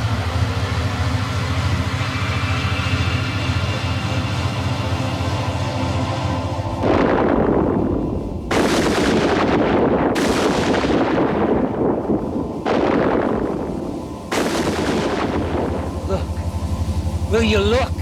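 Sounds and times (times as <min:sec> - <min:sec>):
heavy booming blasts: 0:00.0 - 0:18.0
steady low hum: 0:00.0 - 0:18.0.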